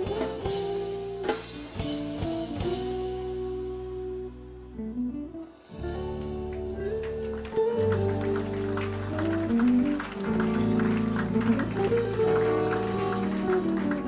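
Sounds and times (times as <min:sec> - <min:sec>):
guitar-led music: 0:00.0 - 0:14.0
strong bass line: 0:00.0 - 0:14.0.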